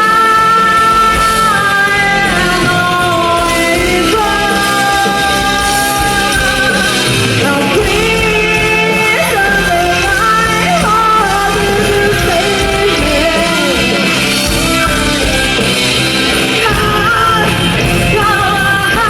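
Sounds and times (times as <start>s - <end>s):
person singing long notes: 0.0s - 19.0s
rock band playing: 0.0s - 19.0s.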